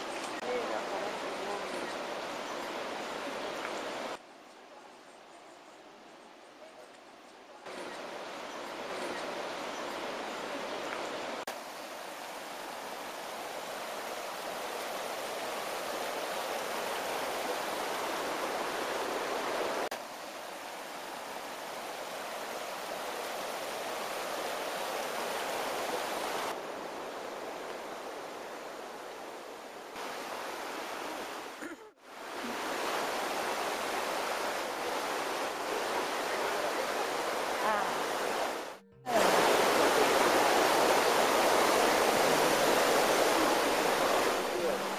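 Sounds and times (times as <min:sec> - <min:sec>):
flowing water rushing: 0:00.0 - 0:04.7, 0:05.5 - 0:44.9.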